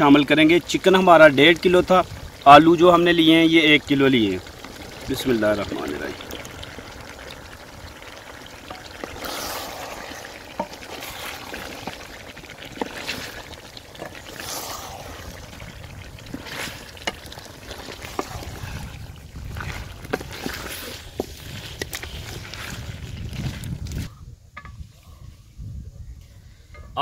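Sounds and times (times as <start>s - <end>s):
food frying: 0.0s - 24.1s
food swishing in a pot: 0.0s - 24.2s.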